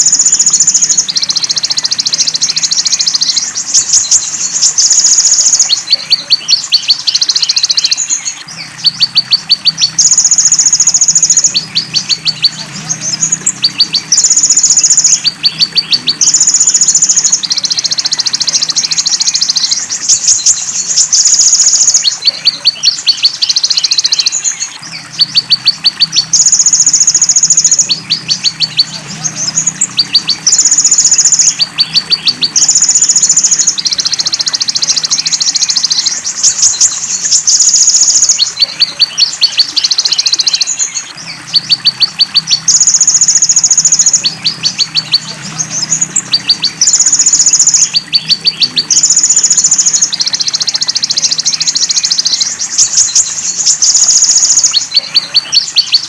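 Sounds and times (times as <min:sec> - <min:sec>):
running water: 0:00.0 - 0:56.0
sunbird song with buzzing trills: 0:00.0 - 0:56.0.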